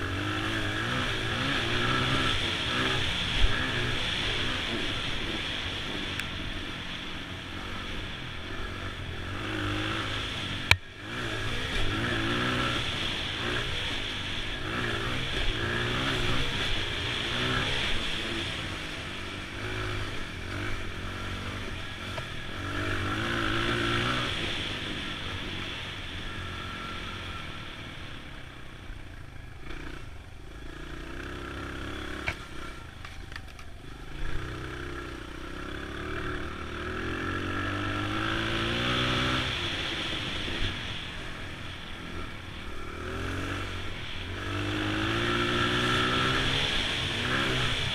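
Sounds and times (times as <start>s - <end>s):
dirt bike engine revving: 0.0s - 28.1s, 34.0s - 47.9s.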